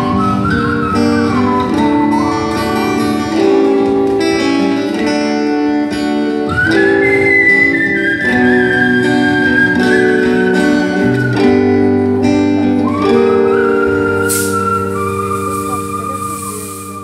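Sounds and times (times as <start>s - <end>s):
acoustic guitar strumming chords: 0.0s - 17.0s
high held melody line: 0.0s - 17.0s.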